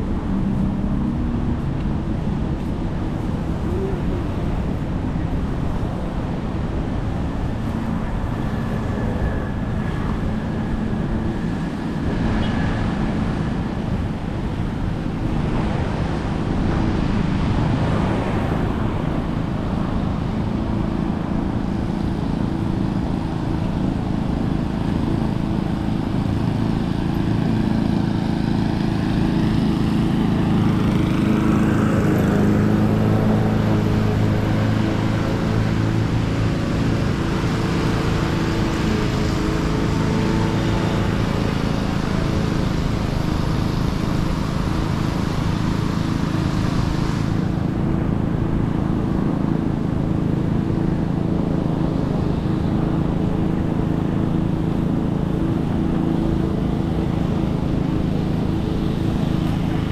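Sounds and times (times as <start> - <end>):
motor engines passing: 0.0 - 59.9
outdoor noise: 0.0 - 59.9.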